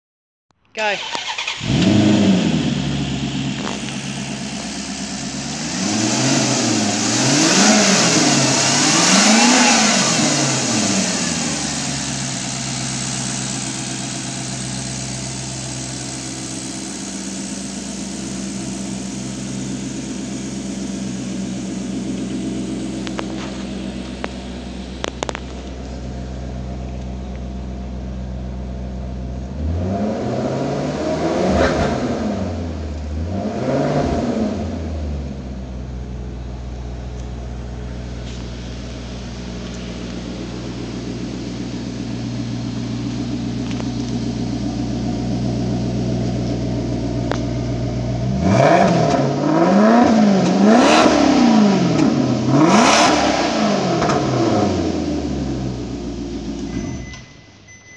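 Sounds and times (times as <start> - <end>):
car engine revving and idling: 1.0 - 57.8.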